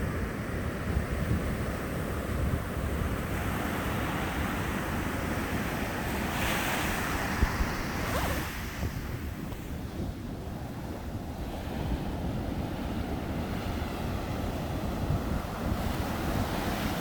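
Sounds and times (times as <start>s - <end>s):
wind rumbling on microphone: 0.0s - 17.0s
sea waves breaking on beach: 0.5s - 17.0s.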